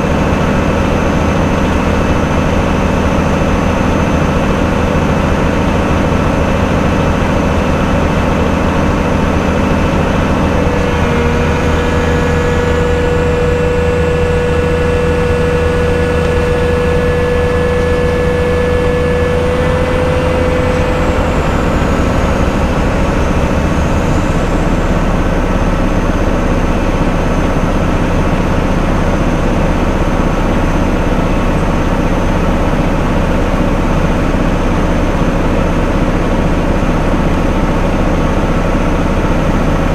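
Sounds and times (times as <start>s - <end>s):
heavy machinery engine running: 0.0s - 39.9s
steady whine: 0.0s - 39.9s.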